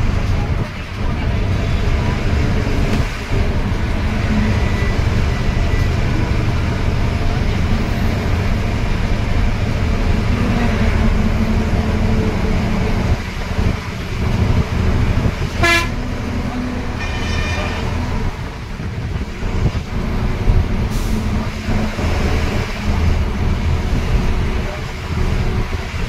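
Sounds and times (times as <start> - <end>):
bus engine drone: 0.0 - 26.0
road noise inside bus: 0.0 - 26.0.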